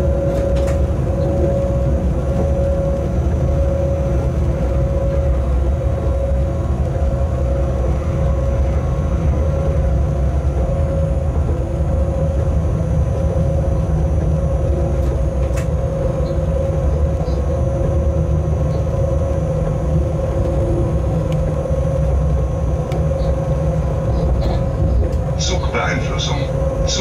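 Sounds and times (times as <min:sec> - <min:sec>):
locomotive low rumble: 0:00.0 - 0:27.0
mid-pitched hum: 0:00.0 - 0:27.0.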